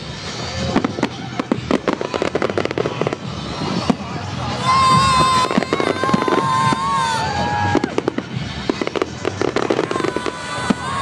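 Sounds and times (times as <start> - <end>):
firework bangs and crackles: 0.0 - 11.0.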